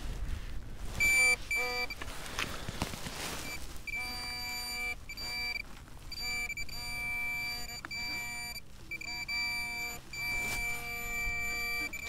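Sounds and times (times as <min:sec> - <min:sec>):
low buzzing tone: 0:00.8 - 0:02.0, 0:03.2 - 0:12.0
metal detector high tone: 0:01.0 - 0:02.0, 0:03.4 - 0:12.0.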